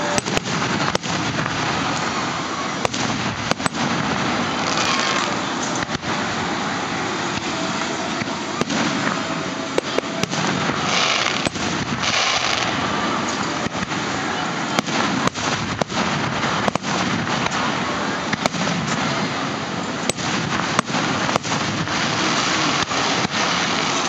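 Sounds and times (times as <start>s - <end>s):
background noise rush: 0.0s - 24.0s
distant fireworks bangs: 0.0s - 24.0s
fireworks hissing: 0.0s - 24.0s.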